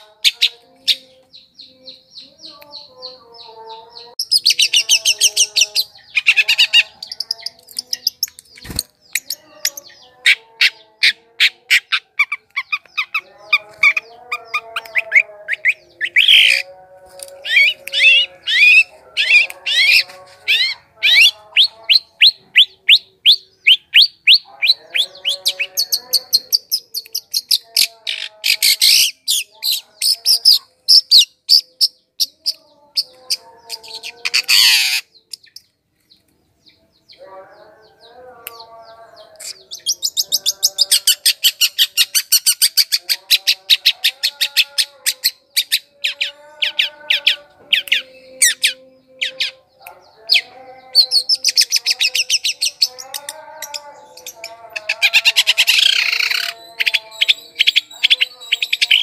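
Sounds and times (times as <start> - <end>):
shrike singing scratchy chatter: 0.0 - 35.7, 37.1 - 59.0.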